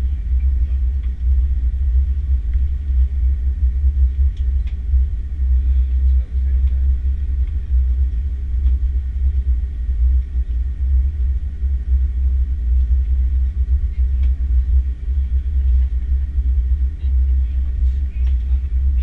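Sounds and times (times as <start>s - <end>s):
deep aircraft cabin rumble: 0.0s - 19.0s
faint even hum: 0.0s - 19.0s.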